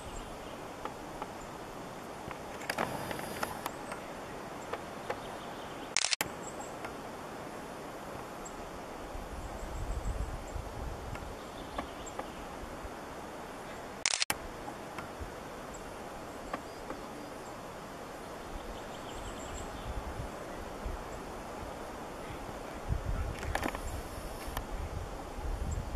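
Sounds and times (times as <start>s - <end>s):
steady hiss with low rumble: 0.0s - 25.9s.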